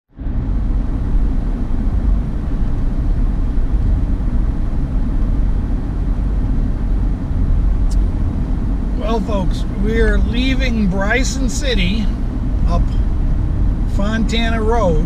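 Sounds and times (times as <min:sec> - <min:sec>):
vehicle engine and road noise: 0:00.1 - 0:15.0.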